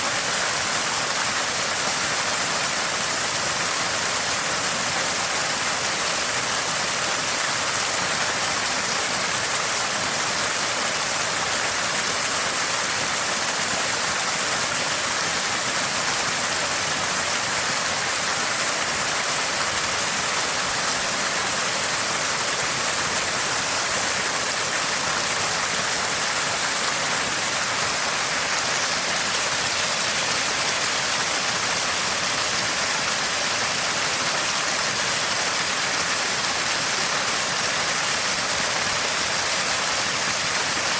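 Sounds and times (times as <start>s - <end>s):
spring water gushing and splashing: 0.0s - 40.9s.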